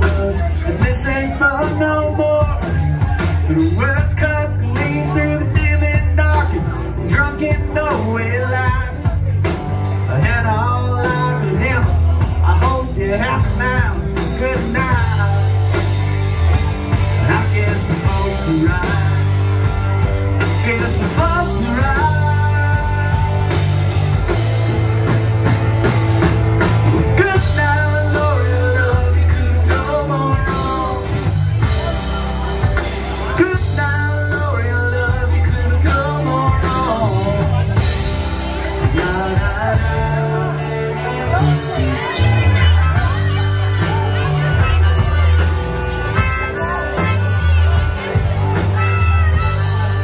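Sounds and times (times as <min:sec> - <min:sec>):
bass guitar: 0:00.0 - 0:50.0
drum kit: 0:00.0 - 0:50.0
electric guitars: 0:00.0 - 0:50.0.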